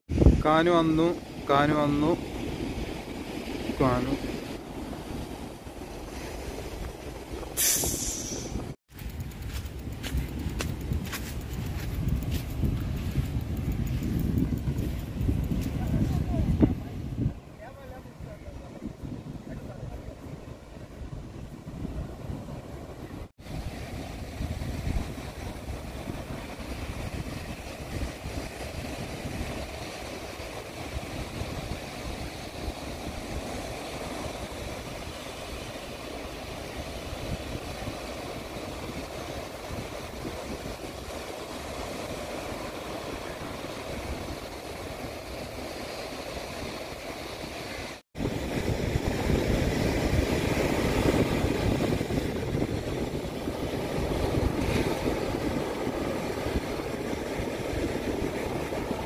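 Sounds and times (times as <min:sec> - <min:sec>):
wind buffeting microphone: 0:00.1 - 0:59.0
surf breaking on beach: 0:09.4 - 0:59.0.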